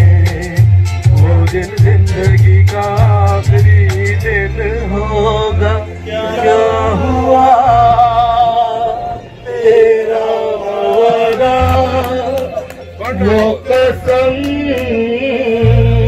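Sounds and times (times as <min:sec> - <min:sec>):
man singing into microphone: 0:00.0 - 0:16.0.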